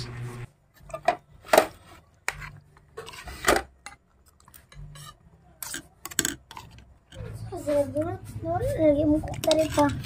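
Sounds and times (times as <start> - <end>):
metal spoon scraping bowls: 0.0 - 10.0.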